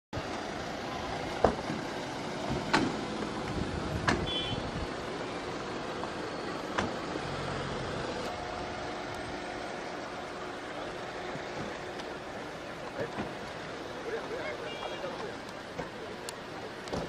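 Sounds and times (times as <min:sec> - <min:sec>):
vehicle engines running: 0:00.2 - 0:17.0.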